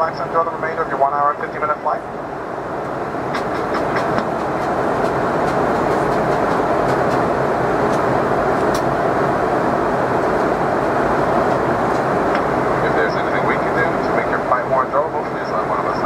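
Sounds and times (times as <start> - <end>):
airflow rush in aircraft cabin: 0.0 - 16.0
jet engines droning: 0.0 - 16.0.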